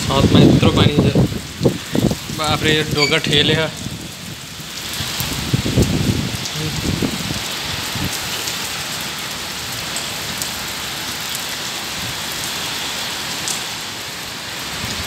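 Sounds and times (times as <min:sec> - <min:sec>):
heavy rain on a flat roof: 0:00.0 - 0:15.0.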